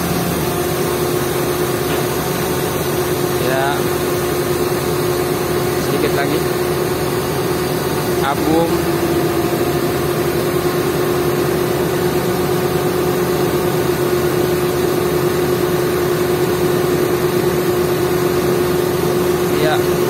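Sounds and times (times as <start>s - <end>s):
constant whine: 0.0s - 20.0s
diesel engine running: 0.0s - 20.0s.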